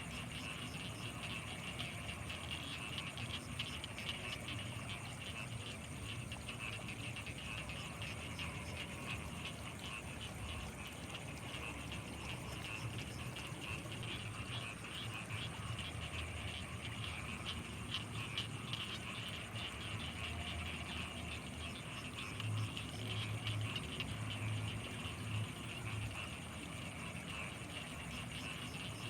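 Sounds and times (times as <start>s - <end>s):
fast trilling of frogs and insects: 0.0s - 29.0s
low pulsing croaks: 0.0s - 29.0s.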